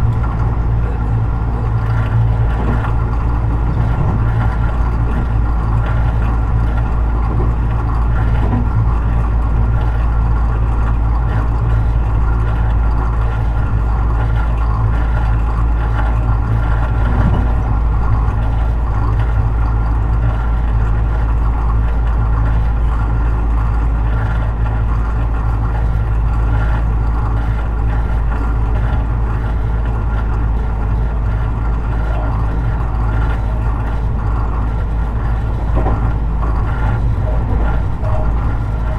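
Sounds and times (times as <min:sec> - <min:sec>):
train wheels rumbling on rail: 0:00.0 - 0:20.2, 0:26.1 - 0:38.9.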